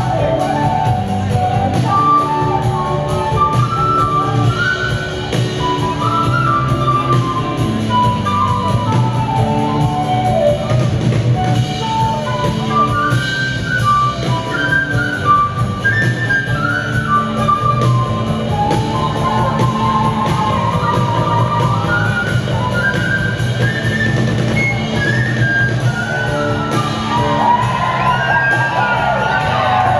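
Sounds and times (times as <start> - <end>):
flute playing quick runs: 0.0 - 29.9
rock band playing: 0.0 - 29.9.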